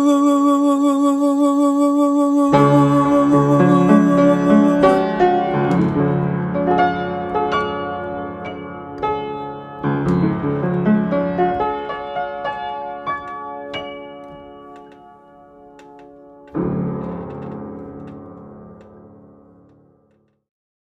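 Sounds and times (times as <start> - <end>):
piano playing chords: 2.1 - 20.0.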